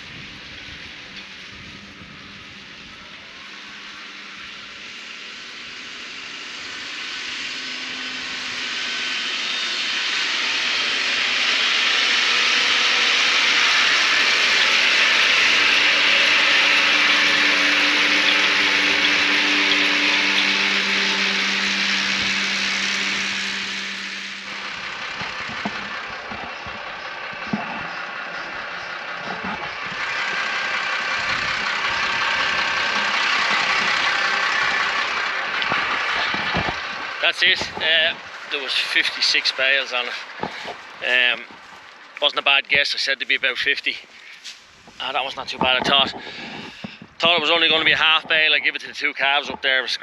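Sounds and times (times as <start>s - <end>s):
tractor engine drone: 0.0s - 50.0s.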